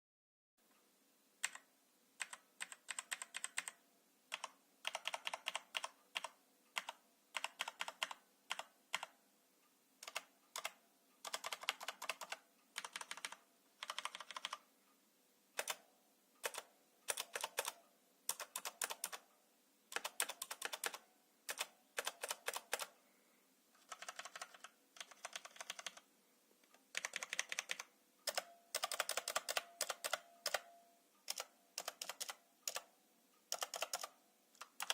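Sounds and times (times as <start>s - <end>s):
keyboard typing clicks: 1.4s - 9.1s, 10.0s - 14.6s, 15.6s - 15.8s, 16.4s - 19.2s, 19.9s - 22.9s, 23.8s - 26.1s, 26.9s - 32.9s, 33.5s - 34.9s.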